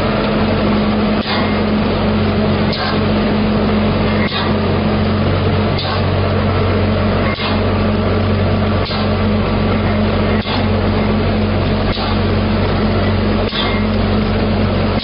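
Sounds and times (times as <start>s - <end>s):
machine droning with low hum: 0.0s - 15.0s.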